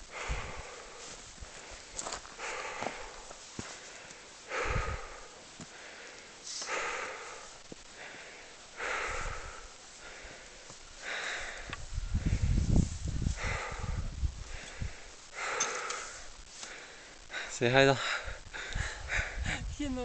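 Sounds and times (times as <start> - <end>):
person breathing heavily: 0.0 - 19.8.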